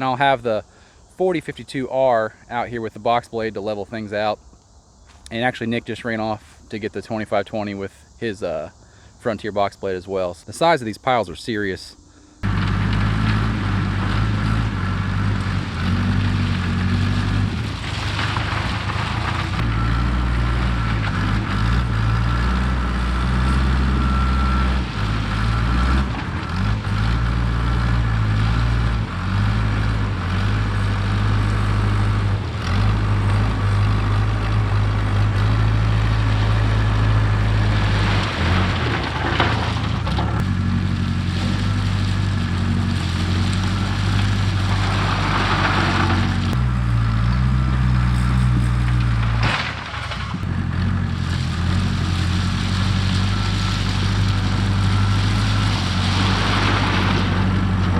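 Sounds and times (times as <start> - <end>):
gravel rushing: 0.0 - 57.9
backhoe diesel engine working: 10.5 - 57.9.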